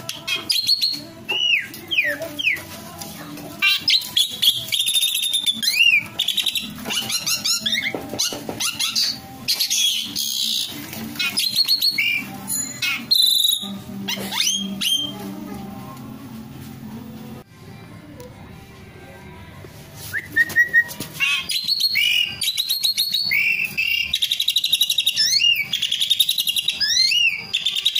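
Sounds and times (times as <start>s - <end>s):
starling singing: 0.0s - 17.4s, 20.0s - 27.9s.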